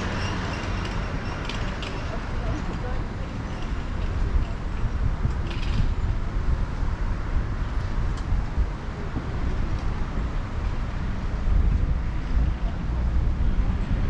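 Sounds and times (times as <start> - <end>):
bicycle road noise: 0.0 - 14.0
wind buffeting microphone: 0.0 - 14.0.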